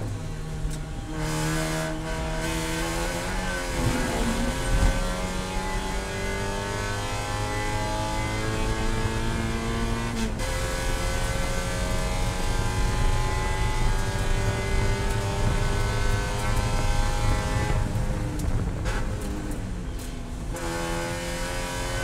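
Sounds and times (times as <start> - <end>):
race car engine at full throttle: 0.0 - 22.0.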